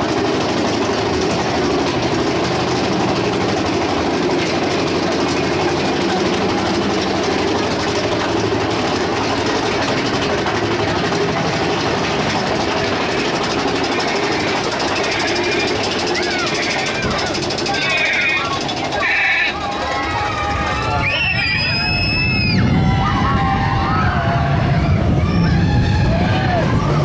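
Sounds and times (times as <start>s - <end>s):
roller coaster wheels rumbling on track: 0.0s - 27.0s.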